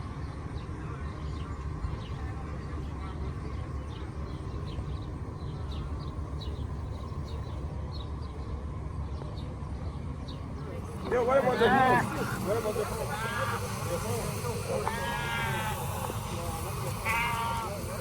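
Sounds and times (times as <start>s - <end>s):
small birds chirping: 0.6s - 7.6s, 10.3s - 18.0s.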